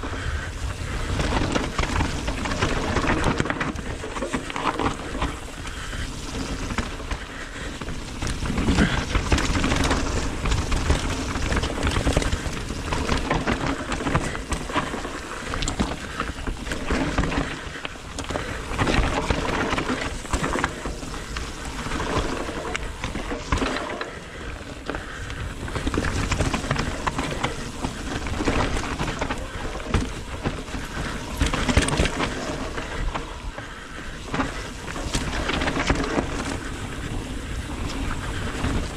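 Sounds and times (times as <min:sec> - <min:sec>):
bike rattling over bumps: 0:00.0 - 0:38.9
bike tyres crunching over dirt: 0:00.0 - 0:38.9.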